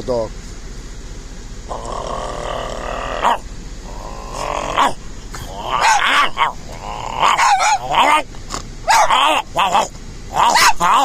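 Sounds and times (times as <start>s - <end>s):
dog growling: 1.7s - 11.0s
man barking and growling: 1.7s - 11.0s.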